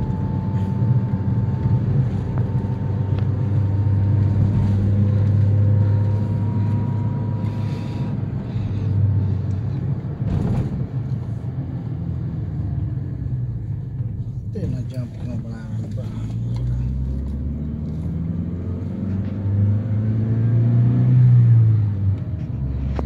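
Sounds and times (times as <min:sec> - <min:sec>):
engine and road hum: 0:00.0 - 0:23.0.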